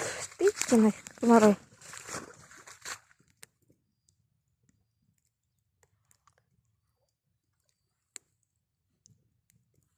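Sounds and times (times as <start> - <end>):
campfire crackling and popping: 0.0 - 9.9.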